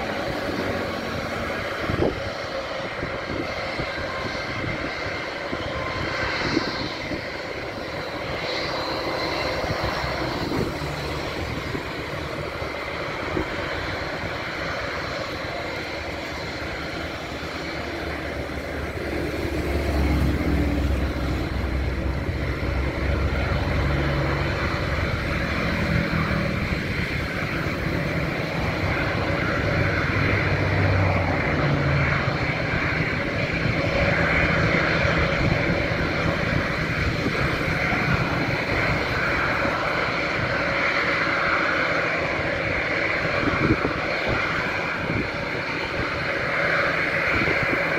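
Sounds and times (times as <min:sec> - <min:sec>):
jet engines whining: 0:00.0 - 0:47.9
low rumble: 0:00.0 - 0:47.9.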